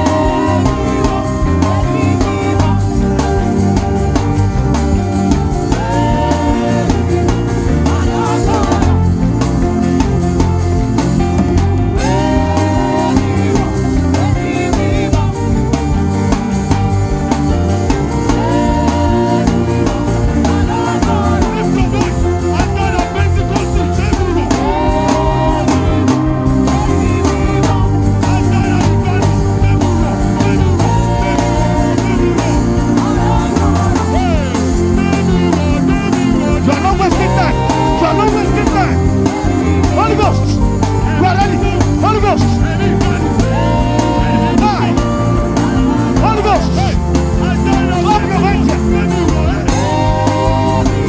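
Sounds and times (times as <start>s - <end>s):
band with drums playing: 0.0s - 51.0s
person singing: 0.0s - 51.0s.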